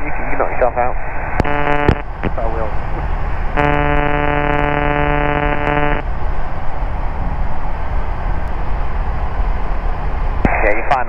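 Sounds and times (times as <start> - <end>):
light aircraft engine drone: 0.0 - 11.0
steady buzzing tone: 1.4 - 10.6.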